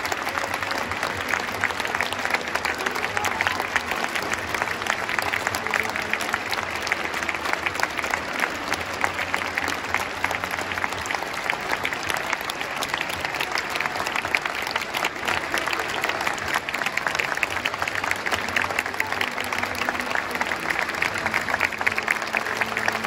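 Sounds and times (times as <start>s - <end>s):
close individual hand claps: 0.0s - 23.0s
stadium crowd applauding: 0.0s - 23.0s.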